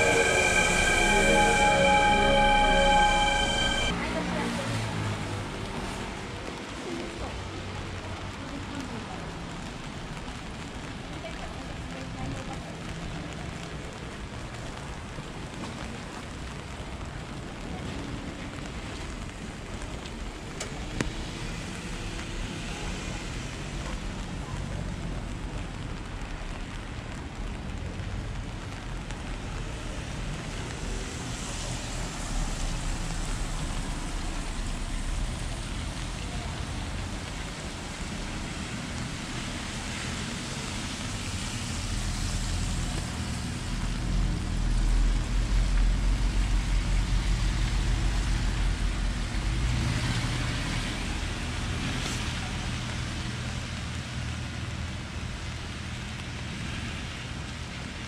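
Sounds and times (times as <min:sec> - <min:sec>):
rain hiss: 0:00.0 - 0:03.9, 0:06.9 - 0:58.0.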